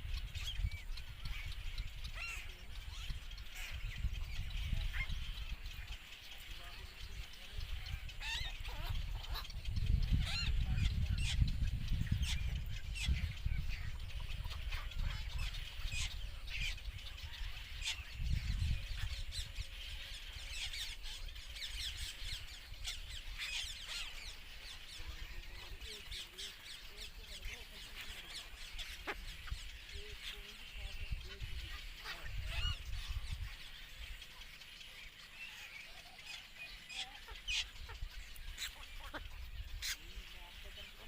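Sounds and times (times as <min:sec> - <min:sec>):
herons calling: 0:00.0 - 0:41.0.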